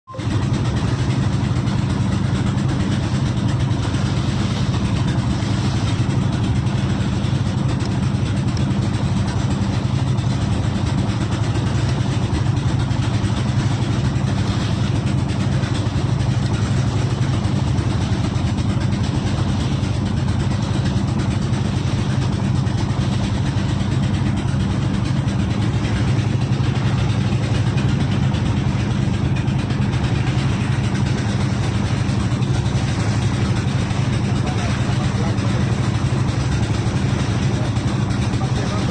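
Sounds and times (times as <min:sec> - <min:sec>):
small boat engine droning: 0:00.0 - 0:38.9.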